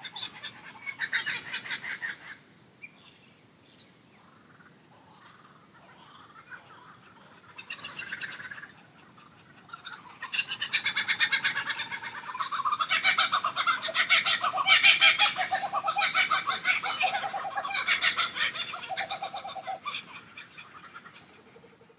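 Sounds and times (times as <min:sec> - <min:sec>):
birds chattering: 0:00.0 - 0:21.8.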